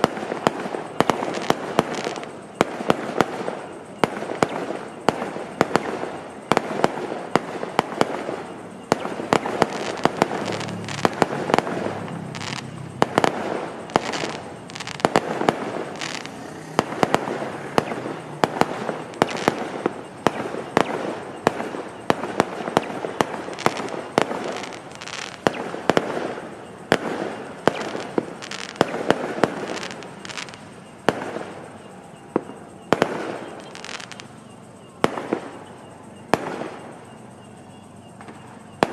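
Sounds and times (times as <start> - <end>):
fireworks crackling: 0.0 - 37.3, 38.1 - 38.9
fireworks bangs: 0.0 - 38.9.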